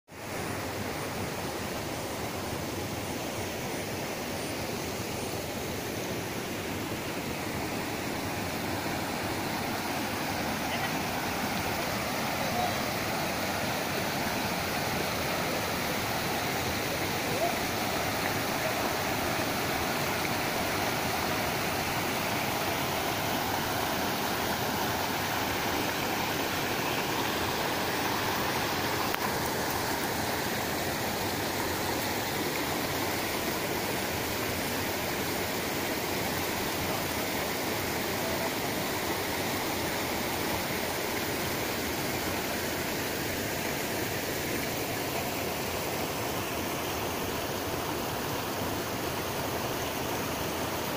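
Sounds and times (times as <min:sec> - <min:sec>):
water rushing over rocks: 0:00.2 - 0:50.9.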